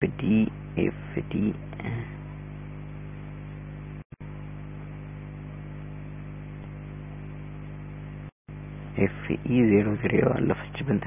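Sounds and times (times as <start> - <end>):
electrical hum with hiss: 0.0 - 11.0.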